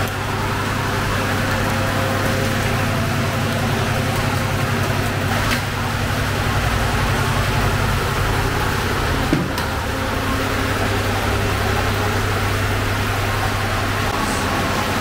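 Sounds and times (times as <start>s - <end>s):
bakery machine hum: 0.0s - 15.0s.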